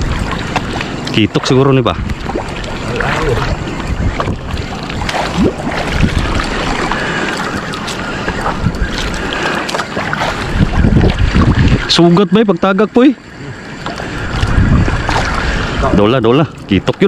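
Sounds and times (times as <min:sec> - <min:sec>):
water lapping around boat: 0:00.0 - 0:17.0
wind buffeting microphone: 0:00.0 - 0:17.0.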